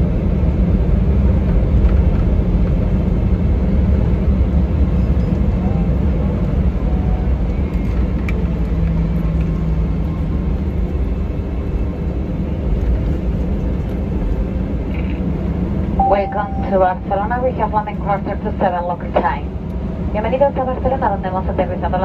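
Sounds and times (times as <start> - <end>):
airliner rumbling on runway: 0.0 - 22.0.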